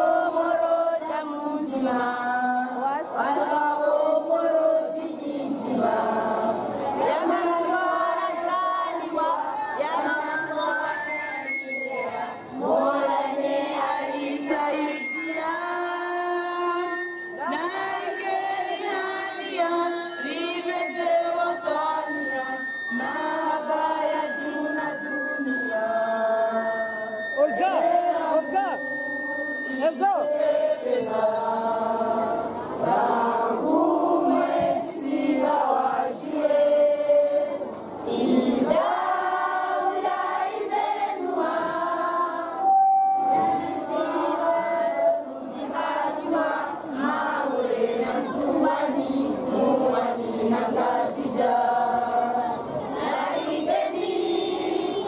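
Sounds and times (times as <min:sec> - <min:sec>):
crowd singing an anthem: 0:00.0 - 0:55.0.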